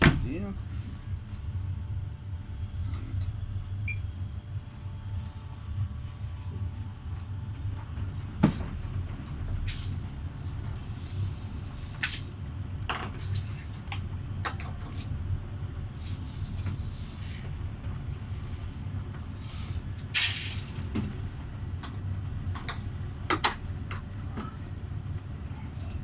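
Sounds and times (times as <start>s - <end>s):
tumble dryer humming: 0.0s - 26.0s.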